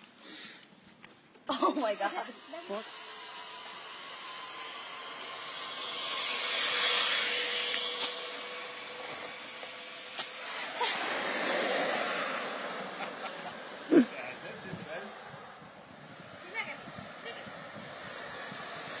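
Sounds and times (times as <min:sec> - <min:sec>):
faint steady whine: 0:00.0 - 0:19.0
hissing rush passing by: 0:01.6 - 0:19.0.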